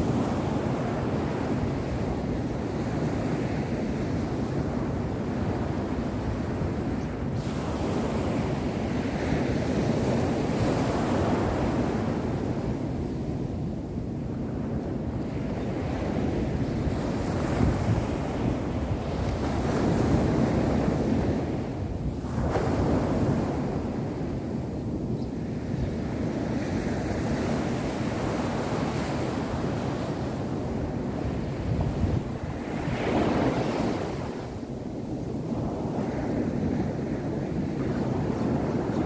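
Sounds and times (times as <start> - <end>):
waves breaking on beach: 0.0 - 39.0
wind buffeting microphone: 0.0 - 39.0.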